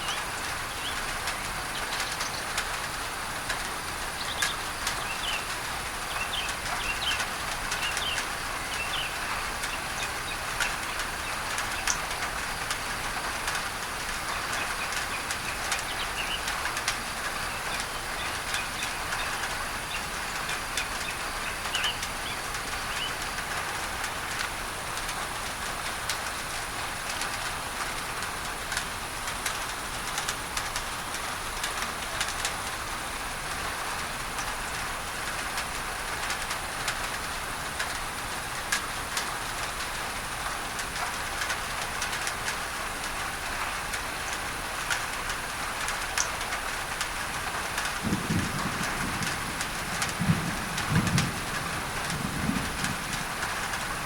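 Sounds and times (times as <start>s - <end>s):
rain on a tin roof: 0.0s - 54.0s.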